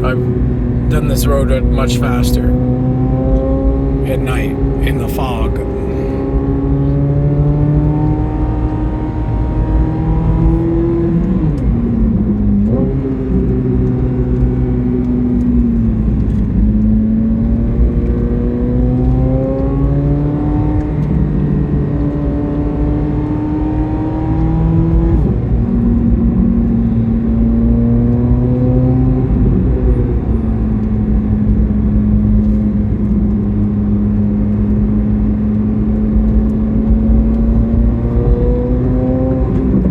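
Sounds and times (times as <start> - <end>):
road rumble: 0.0 - 39.9
sports car engine shifting gears: 0.0 - 39.9.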